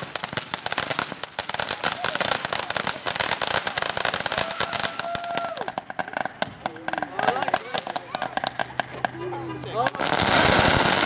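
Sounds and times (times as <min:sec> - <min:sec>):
firework fountain crackling: 0:00.0 - 0:11.0.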